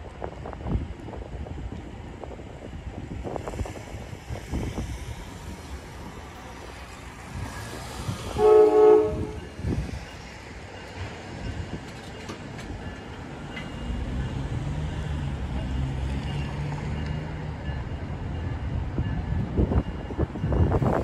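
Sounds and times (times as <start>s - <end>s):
train cars rumbling past: 0.0s - 21.0s.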